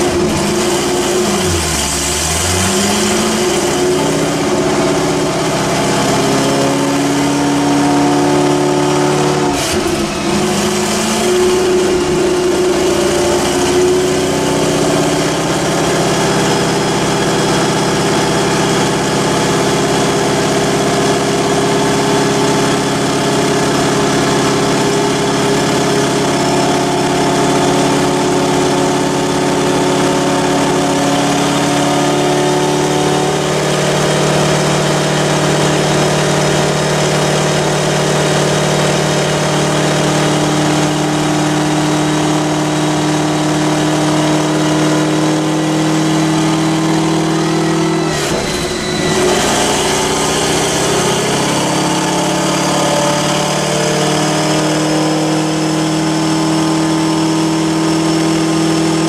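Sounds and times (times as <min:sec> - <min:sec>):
car engine running on dyno: 0:00.0 - 0:59.0.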